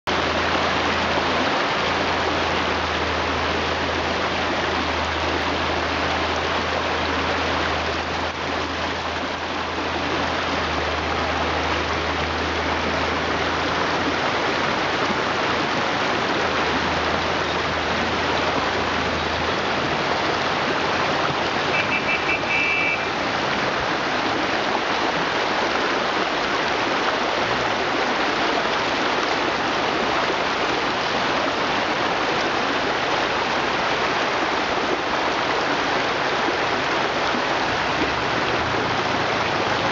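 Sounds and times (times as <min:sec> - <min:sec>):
river rushing over rocks: 0:00.1 - 0:39.9.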